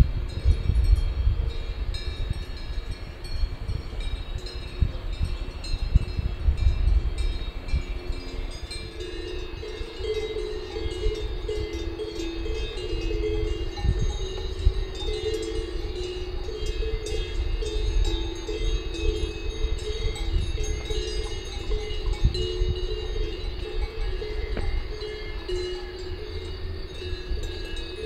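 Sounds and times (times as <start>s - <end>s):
cowbells clanking: 0.1s - 28.0s.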